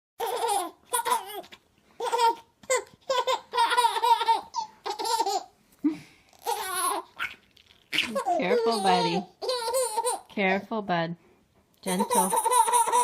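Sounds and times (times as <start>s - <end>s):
baby giggling: 0.2s - 10.3s, 11.9s - 13.0s.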